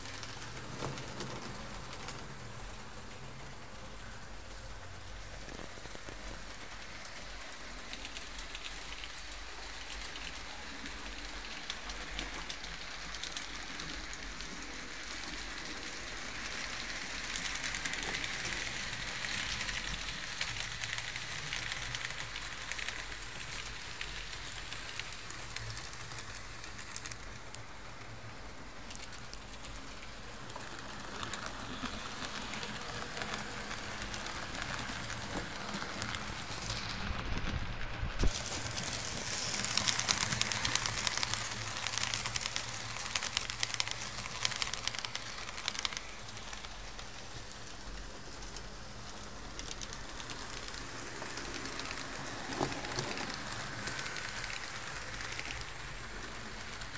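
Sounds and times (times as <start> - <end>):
model trains rattling whirr: 0.0 - 56.9
fine rapid clicking: 5.4 - 37.5, 38.3 - 56.9.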